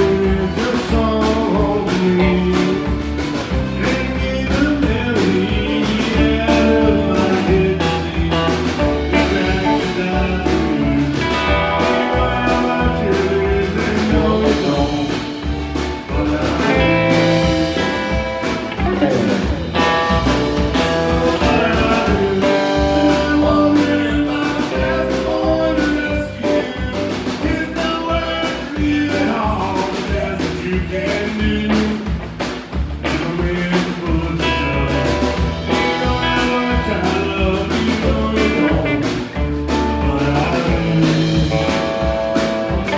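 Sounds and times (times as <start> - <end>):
man singing: 0.0 - 32.3, 33.0 - 42.9
acoustic guitar: 0.0 - 42.9
drum beat: 0.0 - 42.9
live country band: 0.0 - 42.9.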